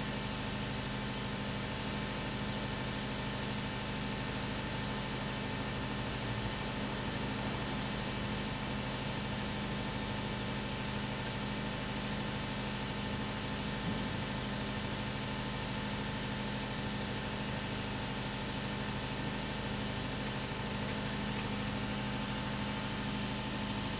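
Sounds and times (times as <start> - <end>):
engine idling: 0.2 - 23.9.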